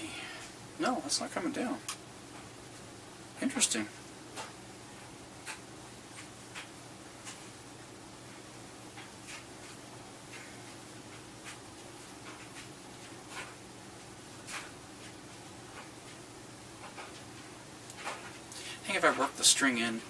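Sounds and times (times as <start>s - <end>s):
low room tone hum: 0.0s - 20.0s.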